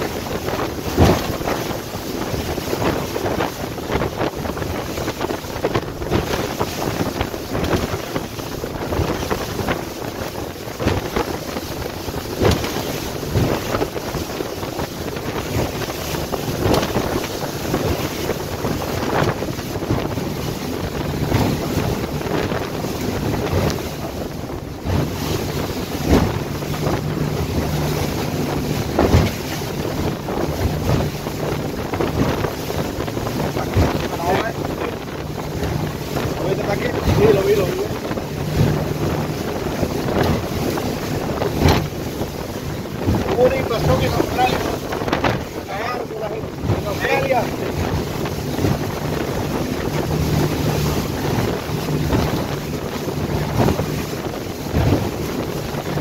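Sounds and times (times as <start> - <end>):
hull thudding through waves: 0.0 - 56.0
outboard motors droning: 0.0 - 56.0
wind buffeting microphone: 0.0 - 56.0.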